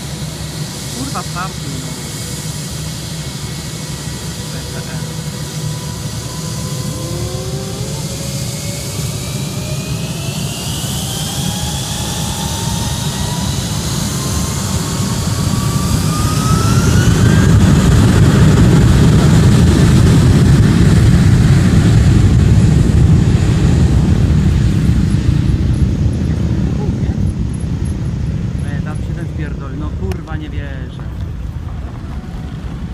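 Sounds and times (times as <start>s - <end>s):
jet engines spooling up: 0.0s - 32.9s.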